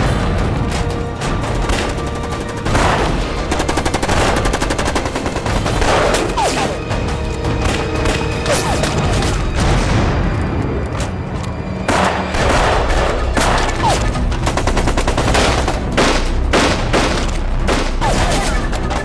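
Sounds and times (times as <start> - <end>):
film music score: 0.0 - 19.0.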